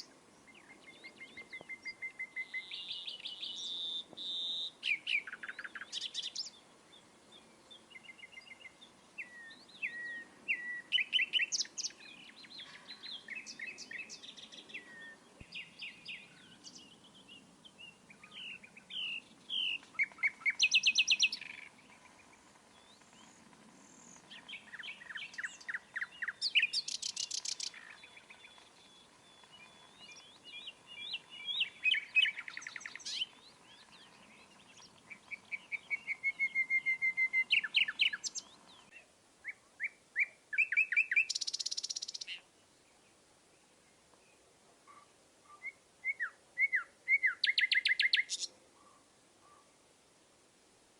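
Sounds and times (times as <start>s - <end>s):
songbirds singing and chirping: 0.0s - 49.9s.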